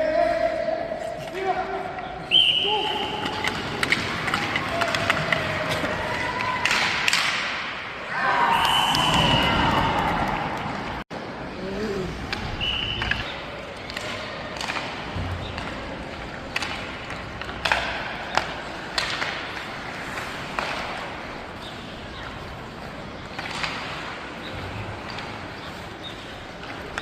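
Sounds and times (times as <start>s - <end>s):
steady rink hum: 0.1s - 27.0s
hockey sticks and puck clacking: 1.1s - 11.0s, 12.3s - 27.0s.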